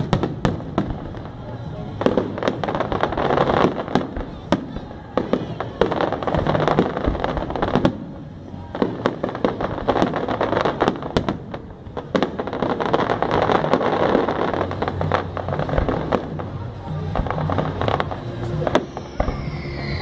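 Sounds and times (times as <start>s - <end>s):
fireworks bursting: 0.0s - 20.0s
fireworks crackle: 0.0s - 20.0s.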